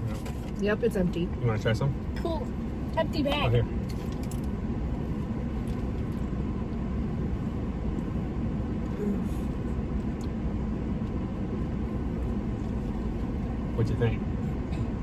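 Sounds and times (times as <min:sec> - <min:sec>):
vehicle rumbling: 0:00.0 - 0:15.0.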